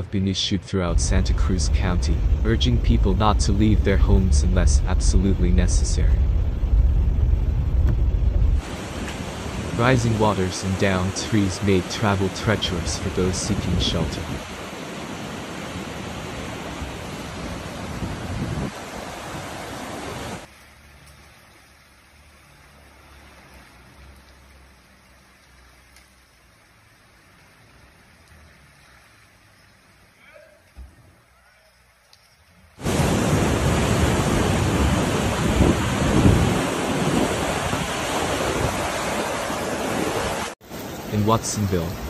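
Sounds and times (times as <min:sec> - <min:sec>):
flood water rushing: 0:00.0 - 0:42.0.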